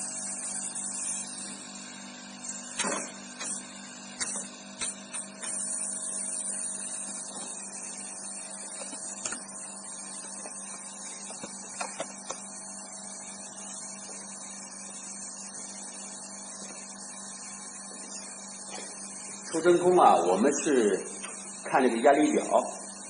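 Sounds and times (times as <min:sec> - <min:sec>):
vacuum pump humming and hissing: 0:00.0 - 0:23.0.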